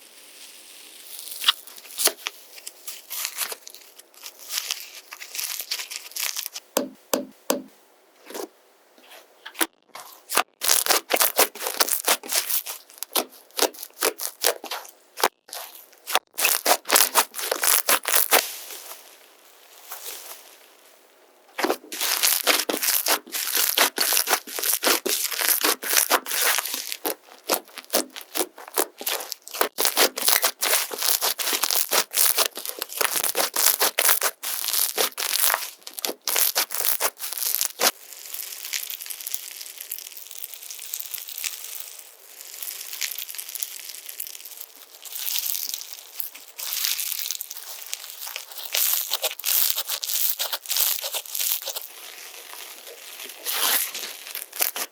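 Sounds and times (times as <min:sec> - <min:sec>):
slime crackling and popping: 0:00.0 - 0:06.9, 0:09.5 - 0:19.0, 0:21.6 - 0:54.9.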